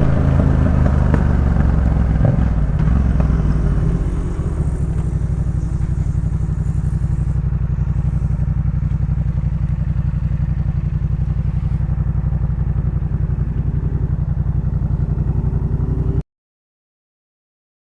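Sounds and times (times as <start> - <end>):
motorcycle engine idling: 0.0 - 16.2.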